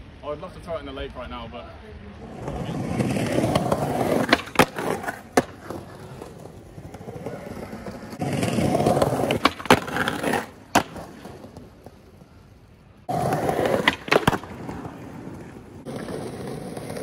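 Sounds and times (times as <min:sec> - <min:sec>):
skateboard wheels rolling on stone: 0:02.2 - 0:17.0
skateboard clacks: 0:02.5 - 0:12.4, 0:13.1 - 0:17.0.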